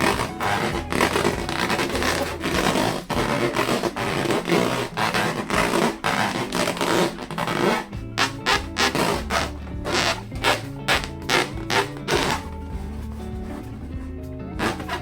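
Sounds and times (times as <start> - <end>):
balloons squeaking when rubbed: 0.0 - 15.0.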